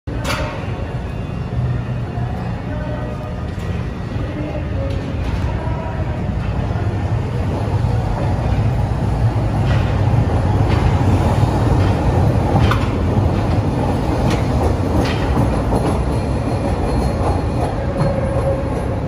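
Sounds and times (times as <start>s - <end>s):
train wheels and motors rumbling: 0.1s - 19.0s.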